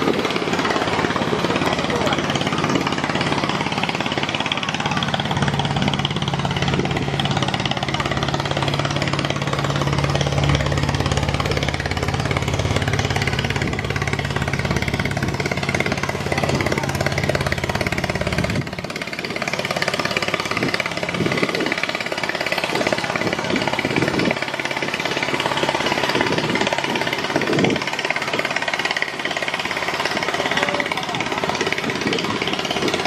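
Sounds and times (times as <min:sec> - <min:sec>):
diesel engine knocking: 0:00.0 - 0:33.0
low engine hum: 0:00.0 - 0:33.0.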